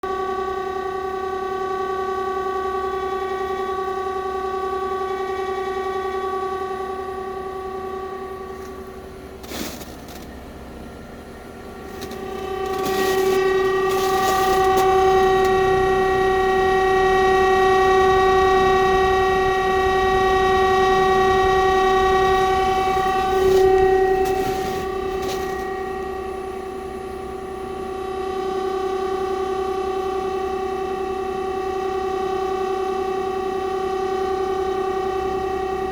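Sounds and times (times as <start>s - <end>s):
heat pump droning tone: 0.0s - 35.9s.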